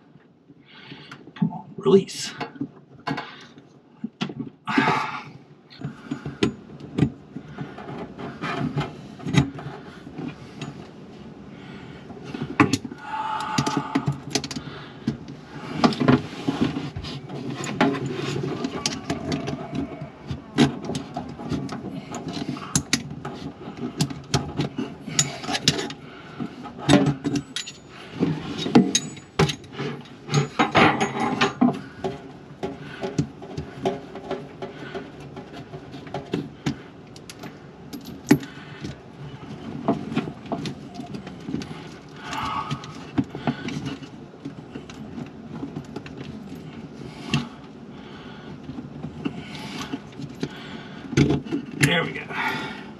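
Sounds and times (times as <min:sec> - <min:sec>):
tool and plumbing rattling: 0:05.8 - 0:52.9.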